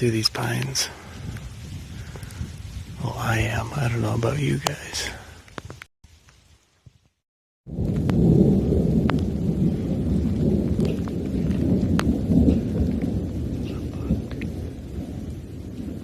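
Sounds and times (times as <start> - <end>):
thunder rumbling: 0.0 - 5.3, 7.7 - 16.0
raindrops ticking: 0.0 - 7.0, 7.7 - 16.0.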